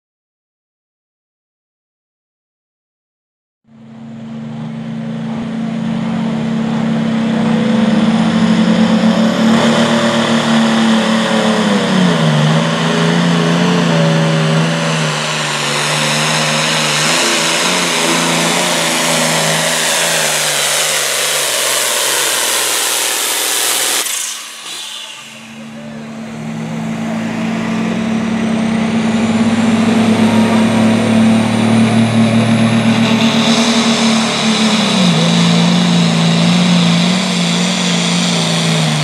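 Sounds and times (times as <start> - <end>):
tractor engine running flat out: 3.7 - 39.0.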